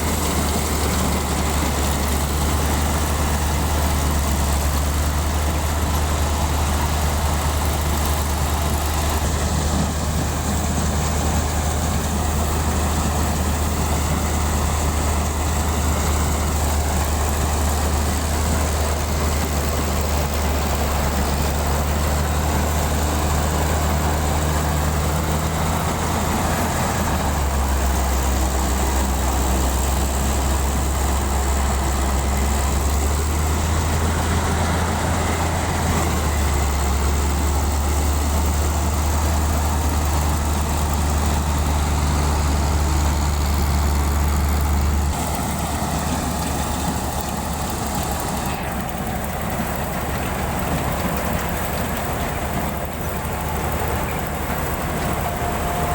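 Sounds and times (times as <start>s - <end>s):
diesel engine droning: 0.0s - 55.9s
machinery noise: 0.0s - 55.9s.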